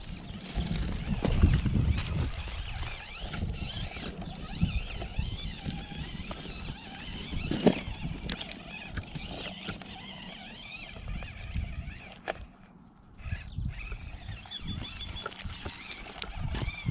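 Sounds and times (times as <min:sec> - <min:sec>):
small electric motor whining: 0:00.0 - 0:16.9
tyres scraping and grinding on rocks: 0:00.0 - 0:16.9.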